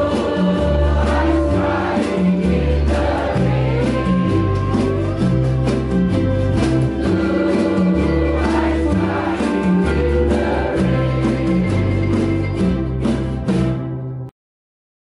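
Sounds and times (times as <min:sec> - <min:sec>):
group of voices singing: 0:00.0 - 0:12.5
drum kit: 0:00.0 - 0:14.1
ukulele ensemble strumming: 0:00.0 - 0:14.3.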